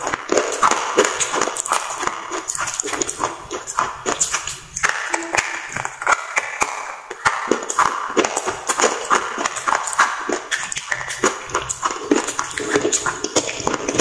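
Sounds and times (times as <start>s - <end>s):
slate pencils crunching when chewed: 0.0s - 14.0s.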